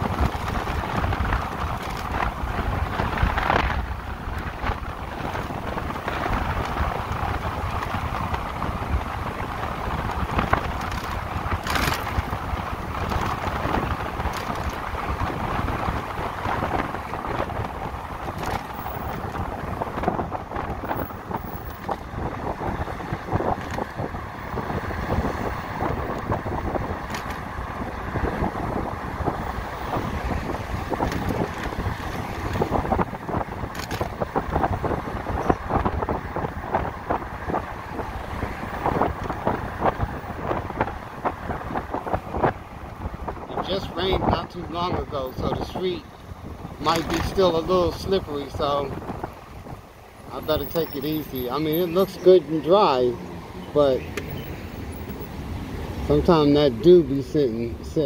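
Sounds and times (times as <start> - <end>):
wind buffeting microphone: 0.0 - 56.4
road noise: 0.0 - 58.0.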